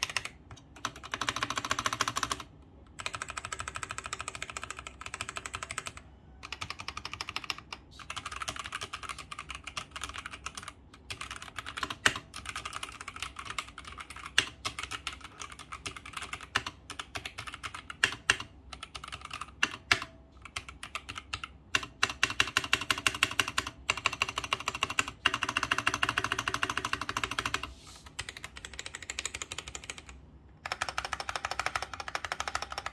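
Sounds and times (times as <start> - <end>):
mechanical keyboard typing: 0.0 - 32.9.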